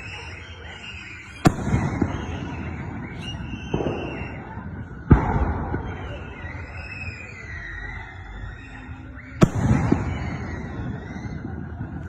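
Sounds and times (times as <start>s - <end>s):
fireworks banging: 0.0s - 7.6s, 9.4s - 12.0s
fireworks popping: 0.0s - 7.6s, 9.4s - 12.0s
fireworks crackling: 0.0s - 12.0s.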